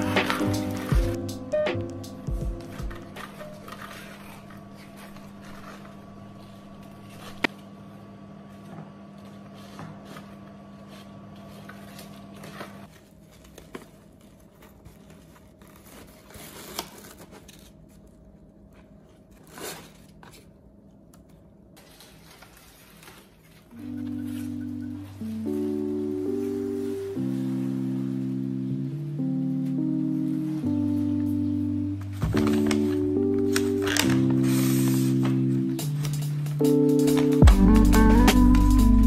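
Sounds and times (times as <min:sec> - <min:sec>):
paper wrapping rustling: 0:00.0 - 0:07.5, 0:09.2 - 0:20.6, 0:21.2 - 0:39.0.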